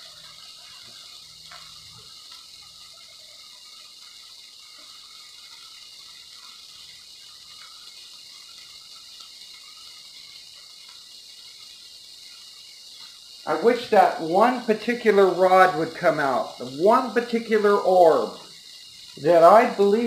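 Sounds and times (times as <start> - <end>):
patties sizzling: 0.0 - 20.0.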